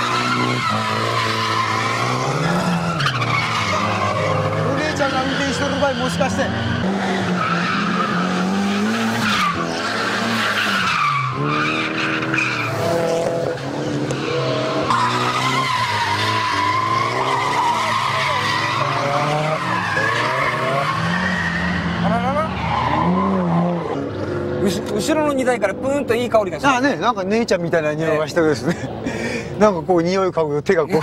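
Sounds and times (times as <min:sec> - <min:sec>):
tyres squealing: 0:00.0 - 0:25.8
car engine revving: 0:00.0 - 0:29.6.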